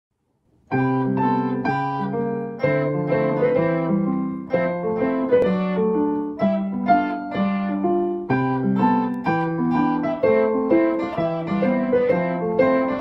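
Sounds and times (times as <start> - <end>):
light piano and guitar tune: 0.7 - 13.0.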